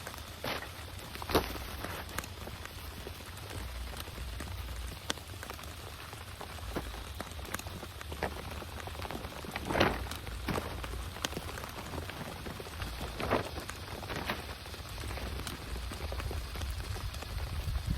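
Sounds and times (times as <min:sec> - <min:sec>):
steady rain falling: 0:00.0 - 0:17.9.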